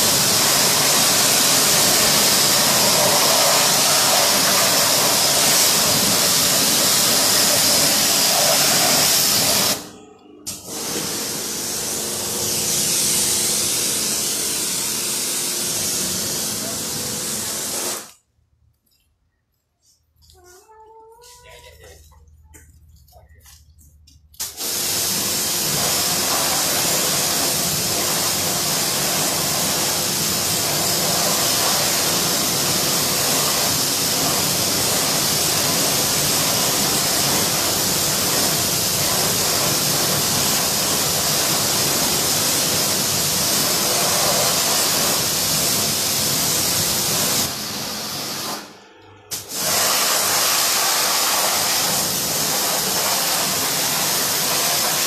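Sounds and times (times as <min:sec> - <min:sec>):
pressure washer jet hissing: 0:00.0 - 0:09.9, 0:10.5 - 0:18.2, 0:24.4 - 0:55.0.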